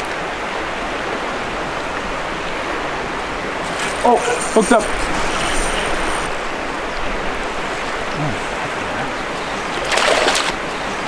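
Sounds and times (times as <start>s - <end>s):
river current rushing: 0.5s - 11.0s.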